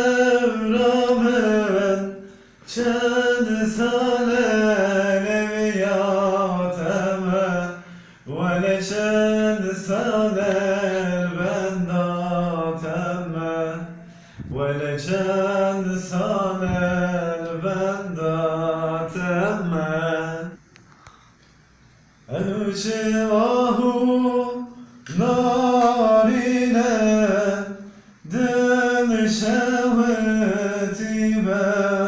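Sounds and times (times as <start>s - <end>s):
man singing unaccompanied: 0.0s - 20.6s, 22.3s - 32.0s.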